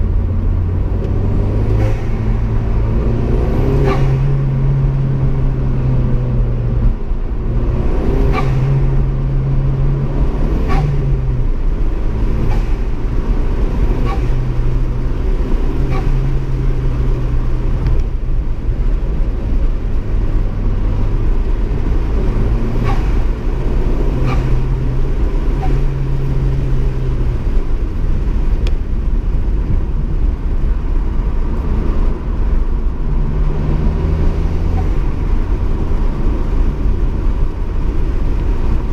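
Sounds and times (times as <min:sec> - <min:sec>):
engine revving: 0:00.0 - 0:18.1, 0:19.2 - 0:28.4, 0:31.4 - 0:37.0.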